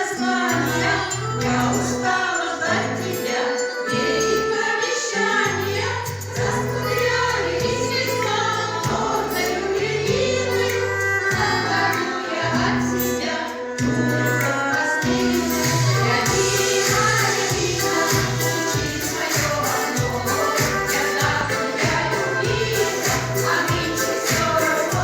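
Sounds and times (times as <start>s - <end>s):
choral voices: 0.0s - 25.0s
folk-pop song: 0.0s - 25.0s.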